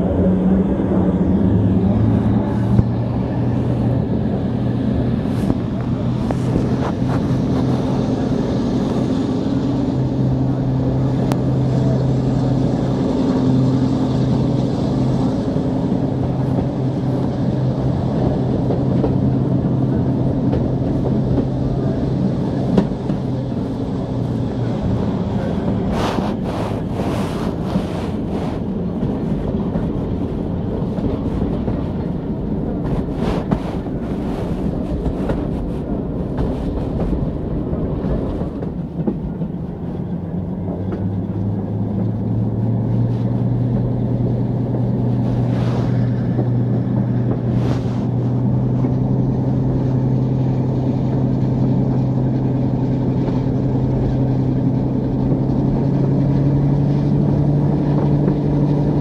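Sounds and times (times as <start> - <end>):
locomotive diesel engine: 0.0 - 59.0.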